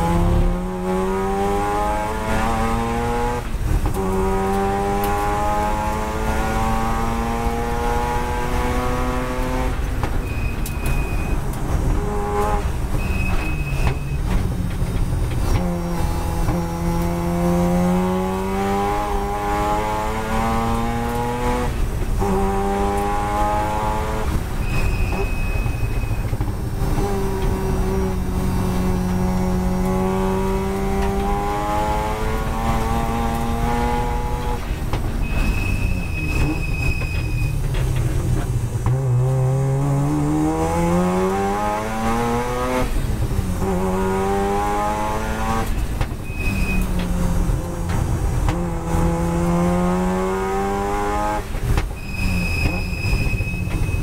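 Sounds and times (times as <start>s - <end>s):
race car rotary engine: 0.0s - 54.0s.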